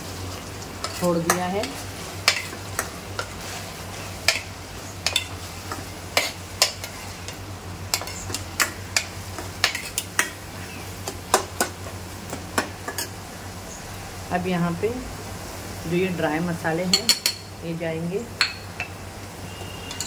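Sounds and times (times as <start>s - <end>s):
low steady sizzle: 0.0s - 20.0s.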